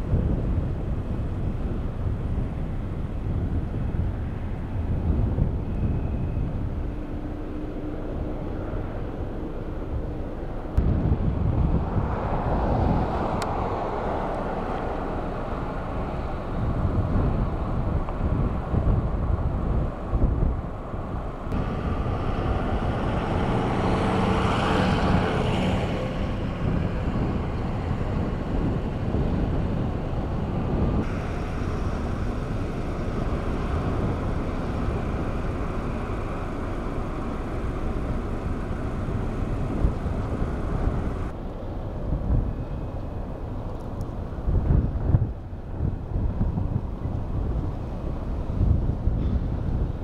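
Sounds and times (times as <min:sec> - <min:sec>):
vehicle engine: 0:00.0 - 0:50.0
wind rumbling on microphone: 0:00.0 - 0:50.0.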